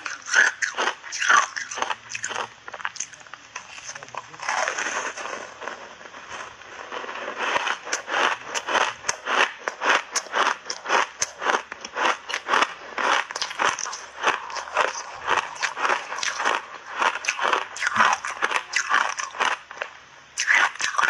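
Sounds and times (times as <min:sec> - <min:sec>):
ice crunched between teeth: 0:00.0 - 0:21.0.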